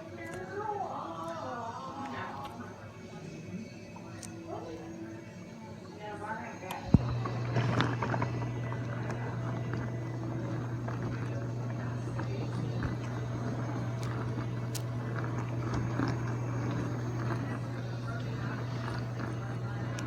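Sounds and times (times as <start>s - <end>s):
dishwasher motor hum: 0.0s - 20.0s.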